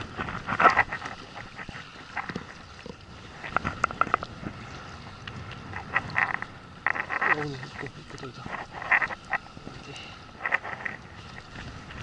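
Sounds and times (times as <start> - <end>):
sea noise: 0.0 - 12.0
wind on microphone: 0.0 - 12.0.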